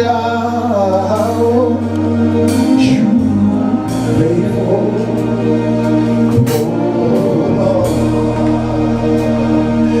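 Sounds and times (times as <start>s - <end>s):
held chords over bass: 0.0s - 10.0s.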